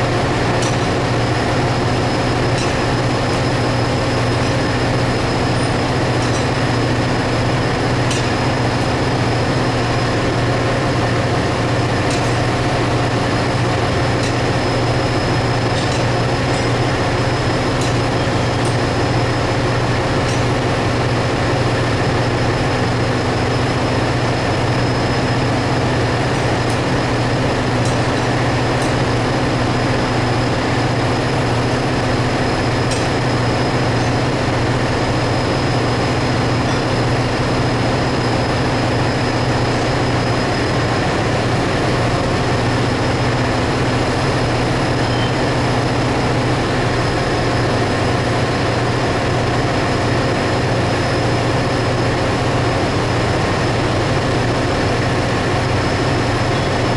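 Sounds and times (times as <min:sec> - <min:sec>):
engine room machinery humming: 0:00.0 - 0:56.9
high machinery whines: 0:00.0 - 0:56.9.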